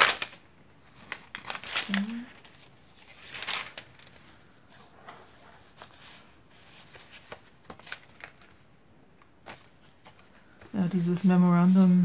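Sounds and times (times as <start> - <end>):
paper pages turning: 0.0 - 12.0
paper rustling: 0.0 - 12.0.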